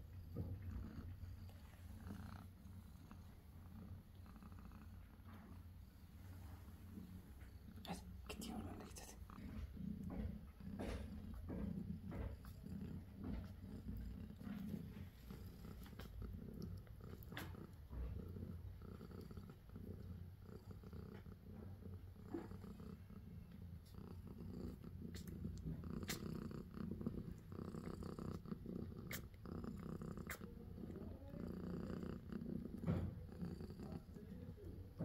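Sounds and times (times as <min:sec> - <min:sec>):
cat purring: 0:00.0 - 0:35.0.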